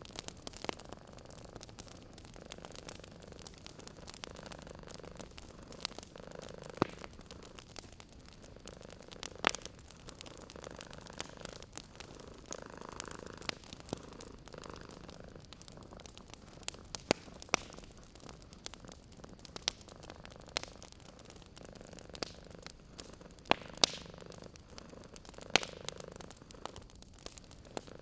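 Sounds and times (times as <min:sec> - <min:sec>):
wood fire crackling: 0:00.0 - 0:28.0
cat purring: 0:00.2 - 0:28.0.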